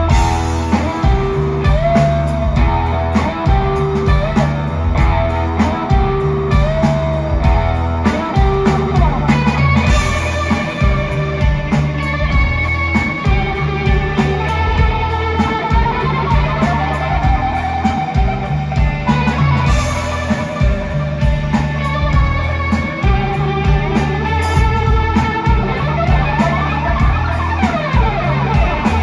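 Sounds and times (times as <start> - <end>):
electric guitar bending pitch: 0.0 - 29.0
rock band playing: 0.0 - 29.0.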